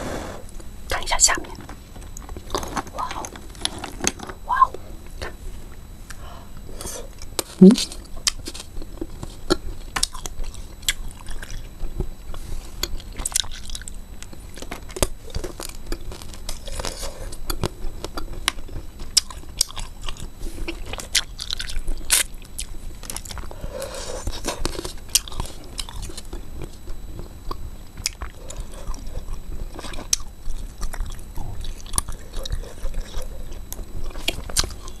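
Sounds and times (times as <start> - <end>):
crunching frozen wax candy: 1.4 - 4.8, 5.7 - 35.0
chewing: 2.1 - 4.4, 6.8 - 12.1, 12.8 - 35.0.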